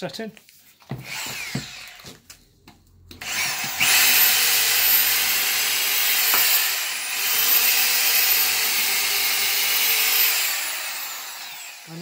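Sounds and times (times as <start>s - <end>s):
hammer drill drilling into wood: 1.0s - 2.2s, 3.1s - 12.0s.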